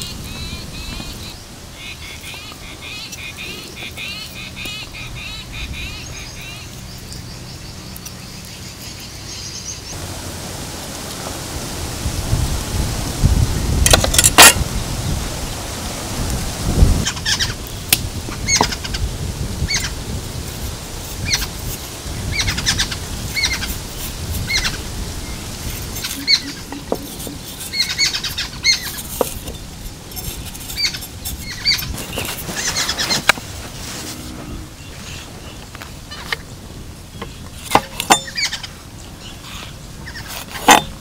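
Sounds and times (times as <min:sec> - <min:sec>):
birds chirping: 0:00.0 - 0:12.7, 0:17.0 - 0:41.0.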